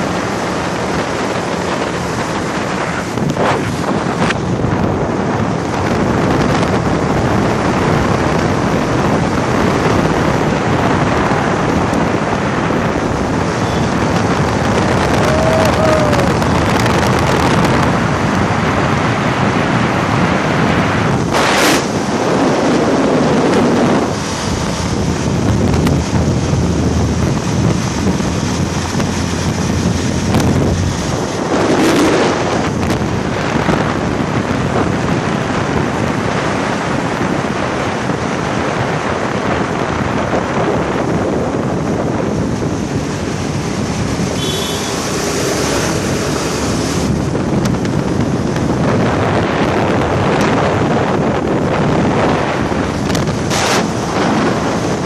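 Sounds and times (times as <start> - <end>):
motorcycle road noise: 0.0 - 55.0
wind rushing over microphone: 0.0 - 55.0.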